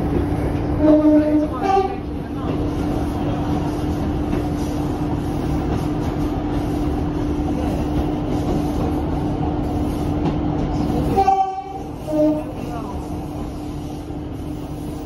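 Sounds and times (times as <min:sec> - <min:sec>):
steady train hum: 0:00.0 - 0:15.0
train wheels rumbling on rail: 0:00.0 - 0:15.0.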